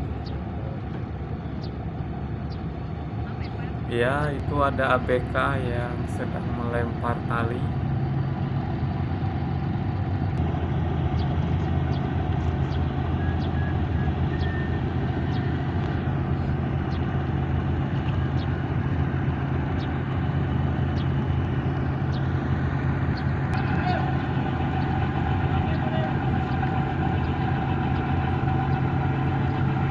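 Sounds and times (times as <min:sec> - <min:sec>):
ship diesel engines droning: 0:00.0 - 0:29.9.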